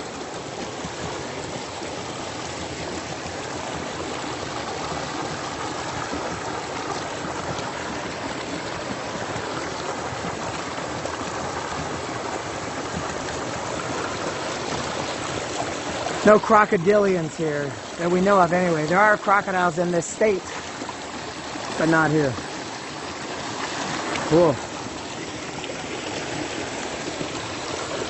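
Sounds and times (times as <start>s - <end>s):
river water flowing: 0.0s - 28.0s.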